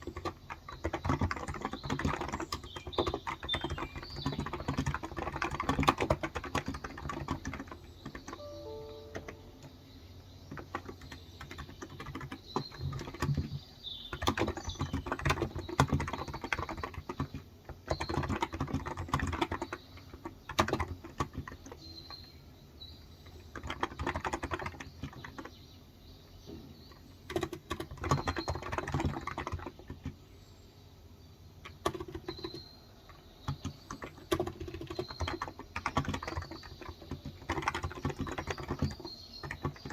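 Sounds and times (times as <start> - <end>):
birds chirping faintly: 0.0 - 39.9.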